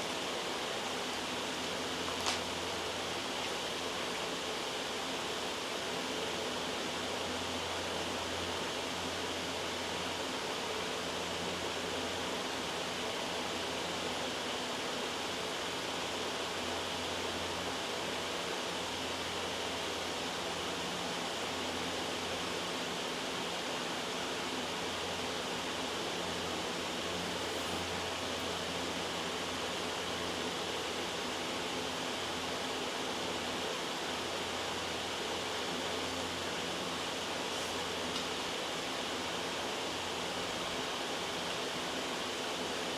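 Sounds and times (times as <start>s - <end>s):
white noise hiss: 0.0s - 42.9s.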